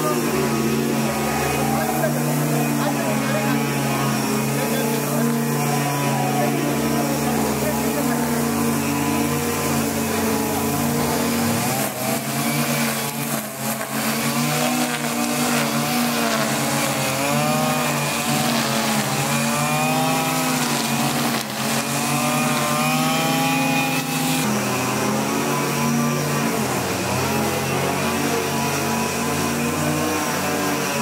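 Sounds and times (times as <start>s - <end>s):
brush cutter engine running: 0.0s - 31.0s.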